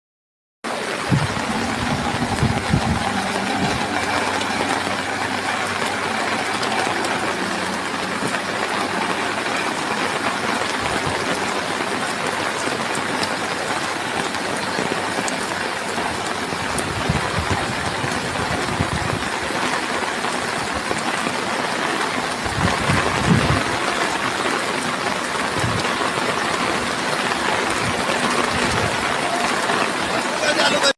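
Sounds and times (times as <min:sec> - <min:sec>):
steady rain: 0:00.6 - 0:30.9
vehicle engines running: 0:00.7 - 0:30.9
vehicles passing: 0:00.7 - 0:30.9.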